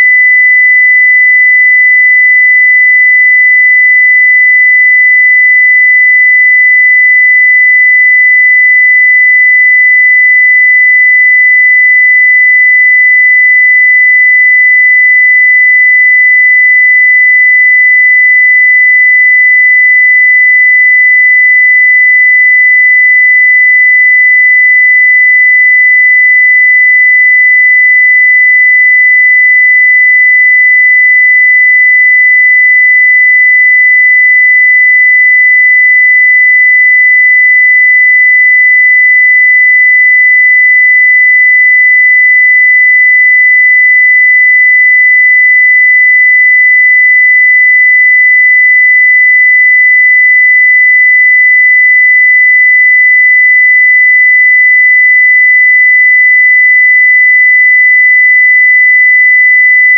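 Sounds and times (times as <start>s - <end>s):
sine-wave test tone: 0.0s - 59.9s.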